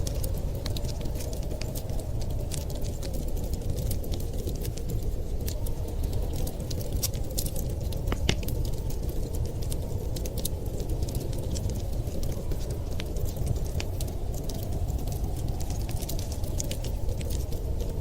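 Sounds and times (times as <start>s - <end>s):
storm wind rushing: 0.0s - 18.0s
wood fire crackling and popping: 0.0s - 18.0s.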